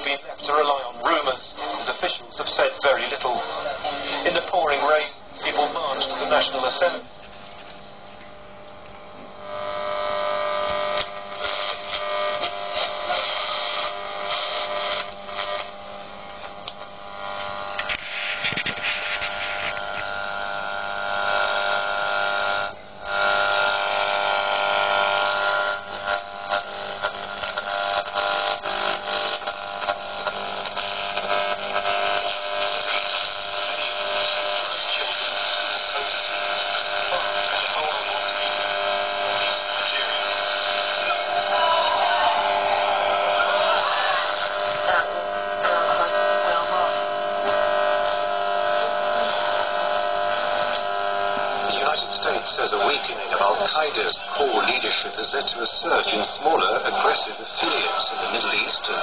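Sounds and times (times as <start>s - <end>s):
steady radio tones: 0.0s - 16.0s, 16.7s - 21.7s, 22.7s - 59.0s
radio static and hum: 0.0s - 59.0s.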